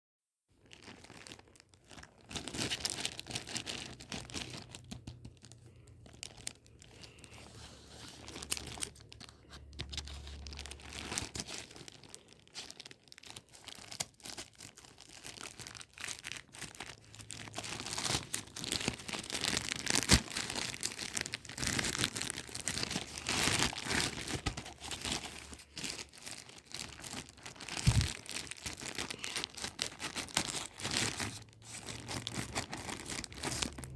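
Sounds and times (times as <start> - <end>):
packaging crinkling and tearing: 0.6 - 33.9.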